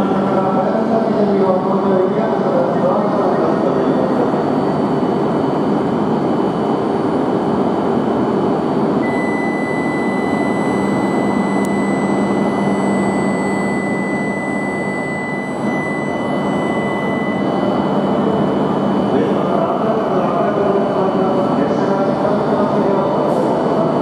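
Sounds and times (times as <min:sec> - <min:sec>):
high-pitched train whine: 0:00.0 - 0:24.0.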